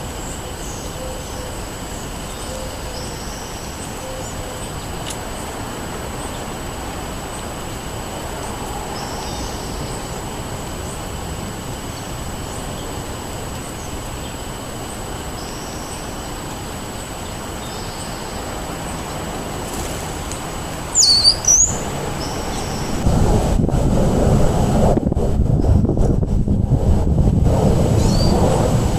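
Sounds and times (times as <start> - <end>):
songbirds calling: 0.0 - 23.1, 27.9 - 28.9
wind rumble: 4.7 - 28.9.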